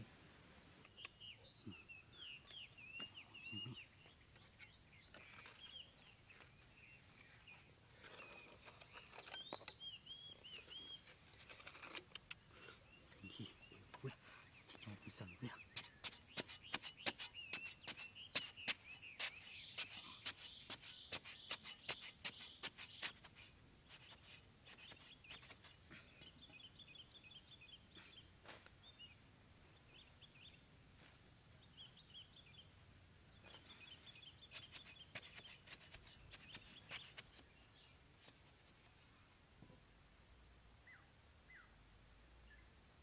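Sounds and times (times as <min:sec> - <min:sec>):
faint birds chirping: 0:00.0 - 0:43.0.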